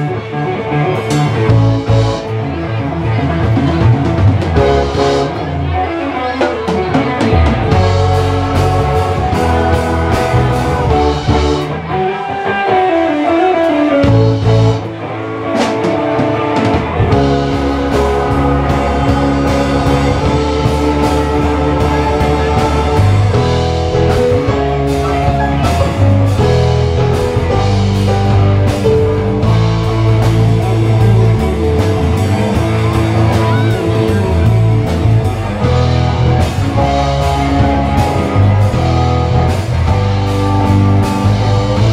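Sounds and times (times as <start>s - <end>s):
bass: 0.0s - 41.9s
electric guitar: 0.0s - 41.9s
keyboards: 0.0s - 41.9s
drum kit: 0.9s - 41.9s.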